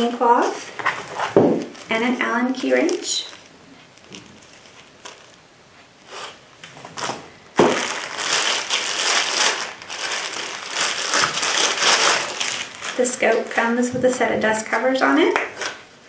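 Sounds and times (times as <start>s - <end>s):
wrapping crinkling: 0.0s - 5.5s, 6.1s - 15.9s.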